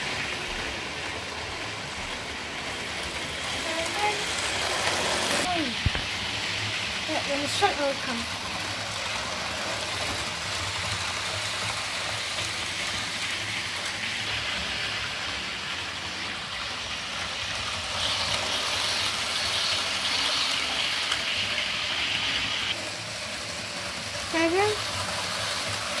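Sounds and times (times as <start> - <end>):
model train wheels on rails: 0.0 - 26.0
model train motor whirring: 0.8 - 24.8.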